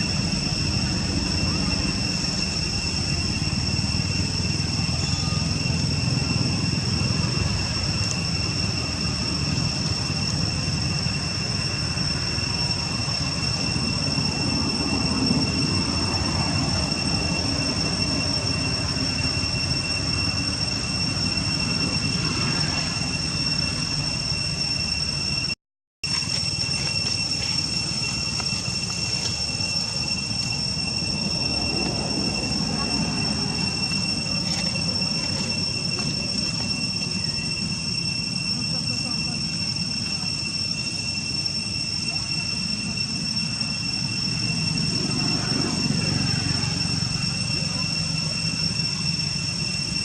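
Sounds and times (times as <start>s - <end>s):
high-pitched whine: 0.0s - 50.0s.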